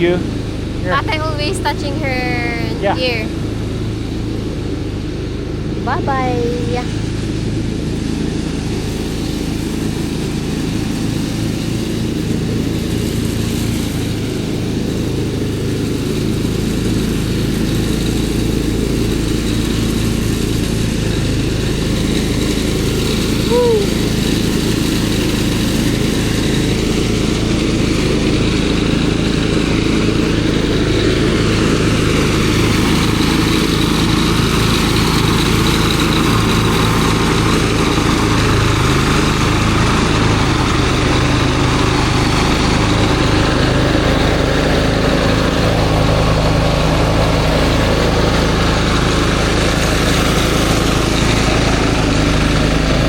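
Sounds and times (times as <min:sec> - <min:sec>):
small engine running steadily: 0:00.0 - 0:53.0.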